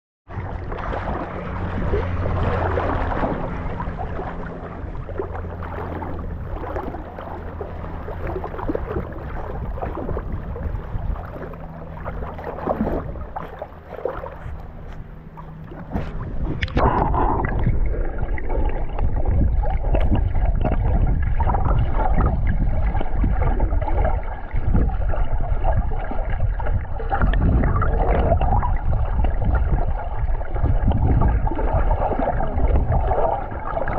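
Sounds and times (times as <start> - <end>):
low steady hum: 0.3 - 33.9
muffled underwater rumble: 0.3 - 33.9
water lapping and sloshing: 0.3 - 33.9.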